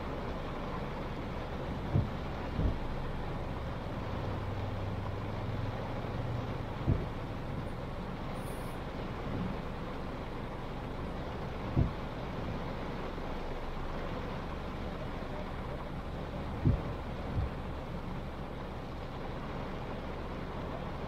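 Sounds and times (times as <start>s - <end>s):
rain and tyre noise: 0.0s - 21.0s.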